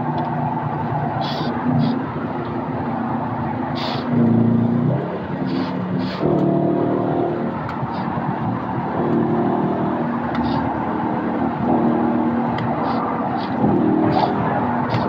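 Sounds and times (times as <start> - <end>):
car engine revving: 0.0 - 15.0
road noise: 0.0 - 15.0.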